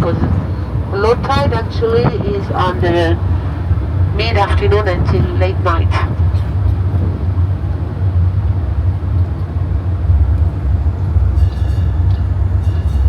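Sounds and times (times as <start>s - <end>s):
road train engine drone: 0.0s - 13.0s.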